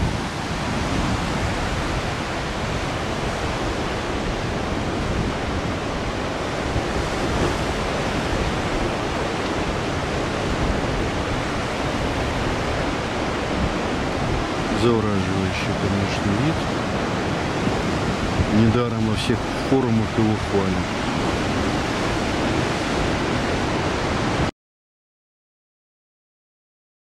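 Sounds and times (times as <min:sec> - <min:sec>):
heavy surf on rocky shore: 0:00.0 - 0:24.5.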